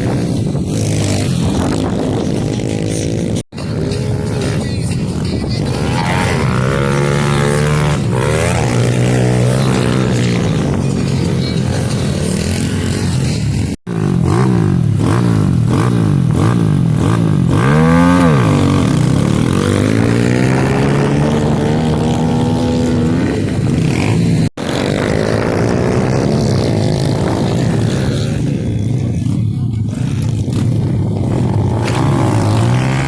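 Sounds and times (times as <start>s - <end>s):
pit bike engine revving: 0.0s - 33.0s.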